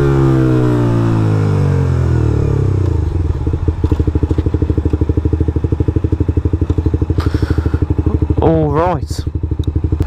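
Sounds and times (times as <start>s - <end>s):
motorcycle engine idling: 1.4s - 10.0s.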